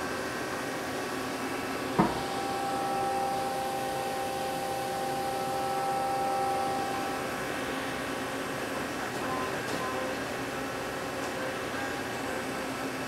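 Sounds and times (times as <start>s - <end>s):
machine hum: 0.0s - 13.0s
motor whine: 0.9s - 12.9s.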